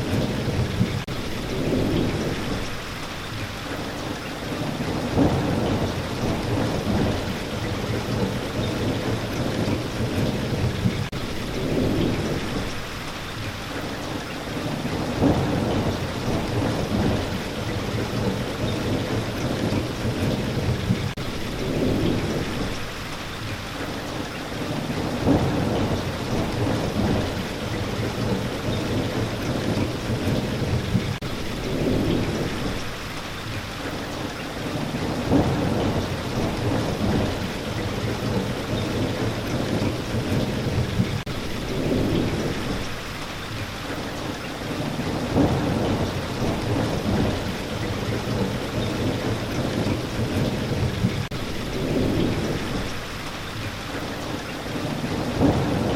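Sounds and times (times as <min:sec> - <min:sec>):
low thunder rumbles: 0:00.0 - 0:03.8, 0:04.4 - 0:23.5, 0:24.5 - 0:55.9
steady rain hissing: 0:00.0 - 0:55.9.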